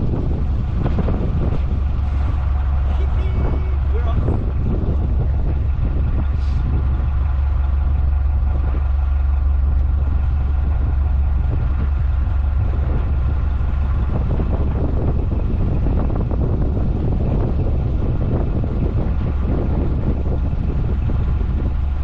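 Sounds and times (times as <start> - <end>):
low engine rumble: 0.0 - 22.0
wind buffeting microphone: 0.0 - 22.0.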